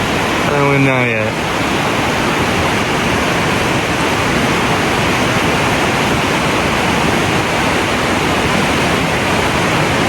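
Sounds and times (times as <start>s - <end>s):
fast-flowing water rushing: 0.0s - 10.0s.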